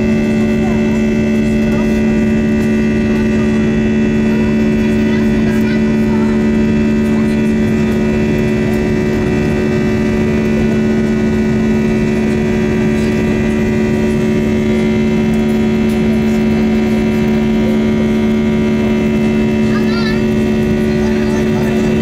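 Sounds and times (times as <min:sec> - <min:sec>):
high engine whine: 0:00.0 - 0:22.0
jet engine drone: 0:00.0 - 0:22.0.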